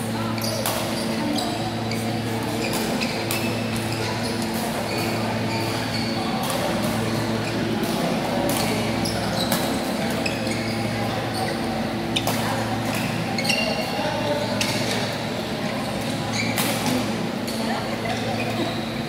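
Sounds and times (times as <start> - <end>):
shoe squeaks on court floor: 0.3 - 7.8, 8.5 - 15.2, 15.8 - 17.2, 18.0 - 19.0.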